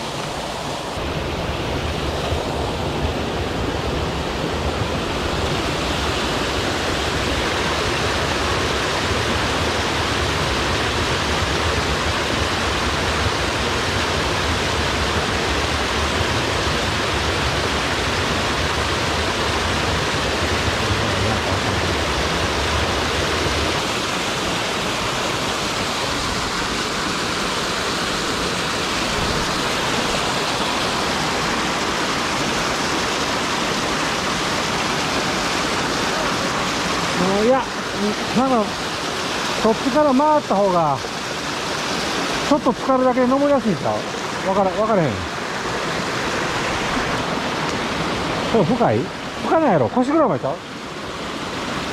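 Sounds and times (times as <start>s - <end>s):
stream rushing over cascades: 0.0s - 51.9s.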